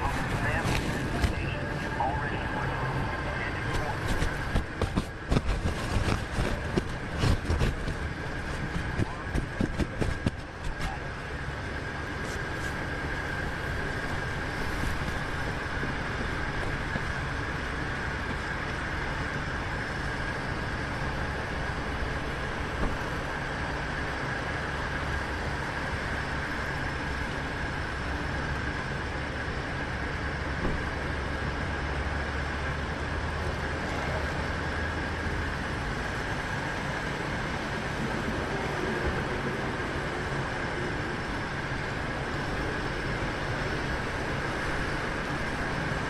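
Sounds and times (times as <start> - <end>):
high whine: 0.0 - 46.0
vehicle running hum and rumble: 0.0 - 46.0.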